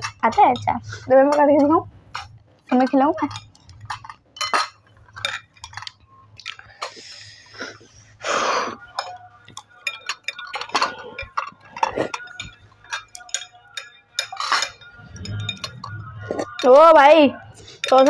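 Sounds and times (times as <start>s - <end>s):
chopsticks clinking against glass bowls: 0.0s - 7.2s, 8.8s - 18.0s.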